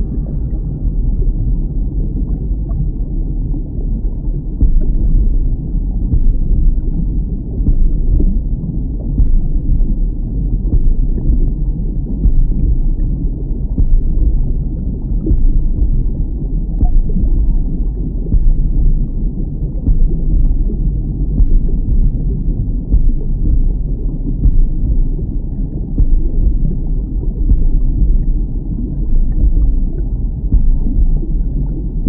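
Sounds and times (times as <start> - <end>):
deep muffled rumbling drone: 0.0 - 32.0.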